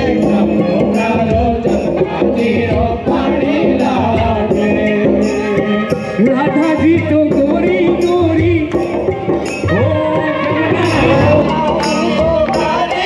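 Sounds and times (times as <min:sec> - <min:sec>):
percussion beat: 0:00.0 - 0:13.0
person singing: 0:00.0 - 0:13.0.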